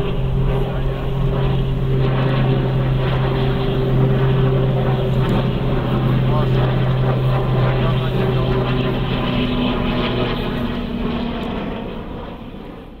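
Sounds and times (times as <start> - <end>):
propeller aircraft drone: 0.0 - 13.0.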